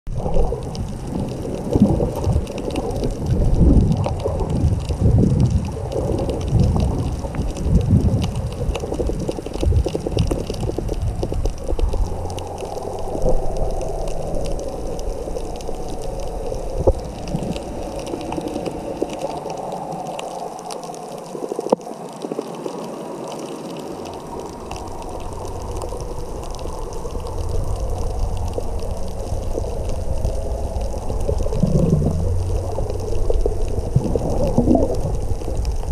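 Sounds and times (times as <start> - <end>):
muffled underwater water movement: 0.1 - 35.9.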